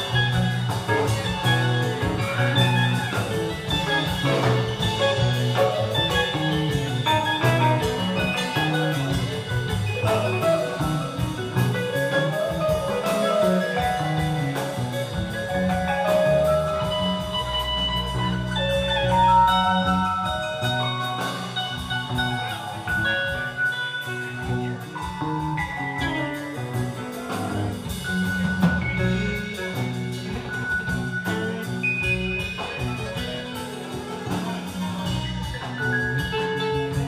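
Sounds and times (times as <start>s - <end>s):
drum kit beat: 0.0s - 37.0s
electric bass: 0.0s - 37.0s
guitar melody: 0.0s - 37.0s
keyboards: 0.0s - 37.0s.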